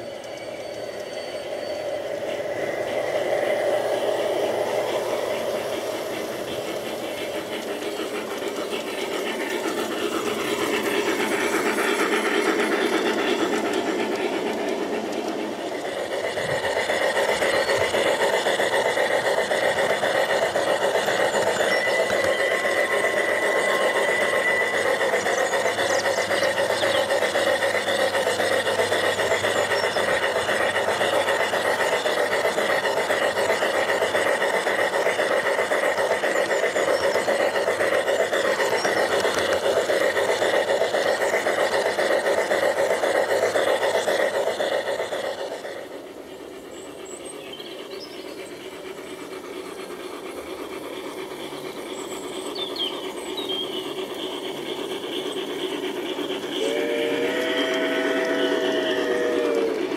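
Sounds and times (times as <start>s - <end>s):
model train motor whirring: 0.0s - 59.9s
wheels rubbing on rails: 0.0s - 59.9s.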